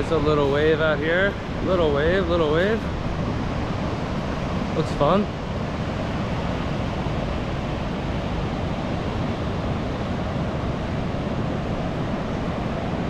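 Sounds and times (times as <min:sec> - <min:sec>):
ocean surf washing onto beach: 0:00.0 - 0:13.0
wind noise on microphone: 0:00.0 - 0:13.0.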